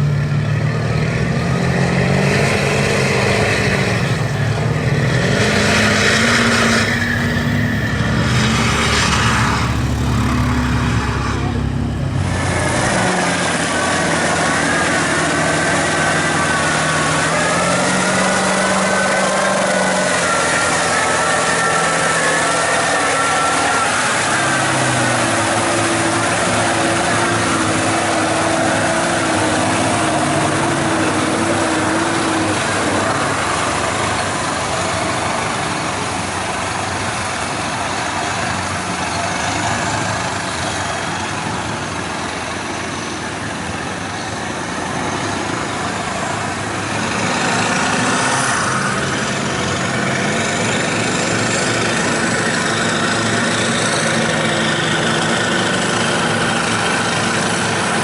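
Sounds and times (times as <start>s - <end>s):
engine revving: 0.0s - 58.0s
truck engines running: 0.0s - 58.0s.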